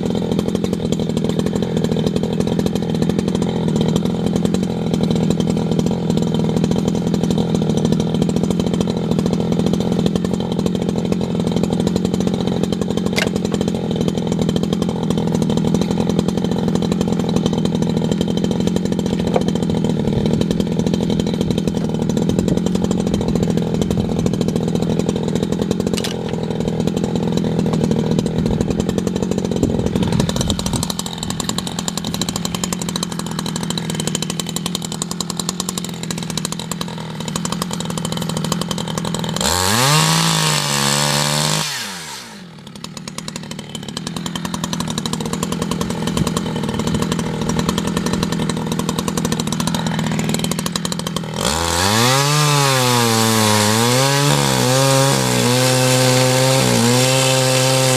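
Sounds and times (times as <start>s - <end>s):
chainsaw running at high revs: 0.0s - 57.9s.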